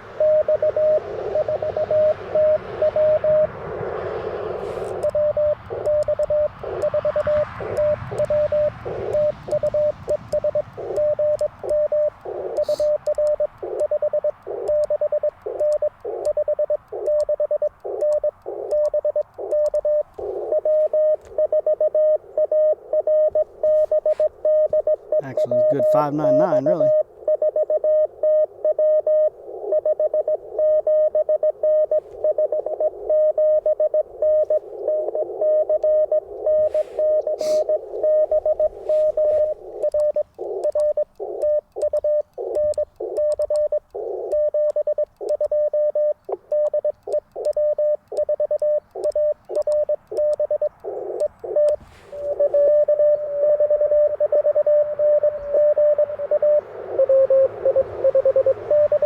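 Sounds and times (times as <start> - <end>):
morse code tone: 0.0 - 59.0
receiver hiss: 0.0 - 59.0.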